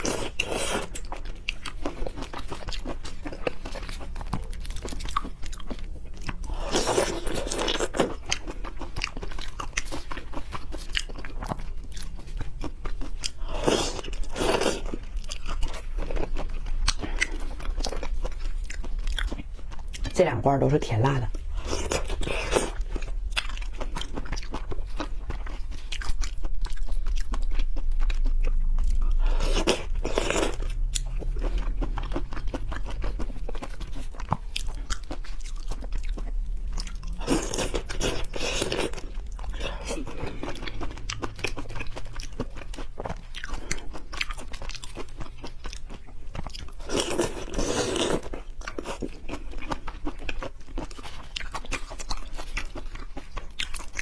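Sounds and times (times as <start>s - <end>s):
wet chewing and biting: 0.0s - 20.2s, 21.3s - 54.0s
steady low hum: 0.0s - 54.0s.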